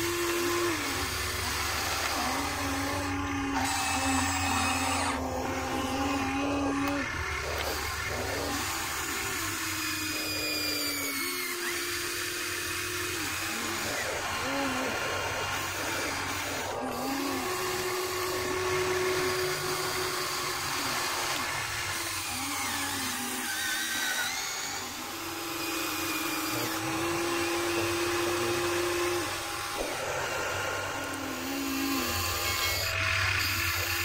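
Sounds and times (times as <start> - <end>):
small electric motors whining: 0.0 - 34.0.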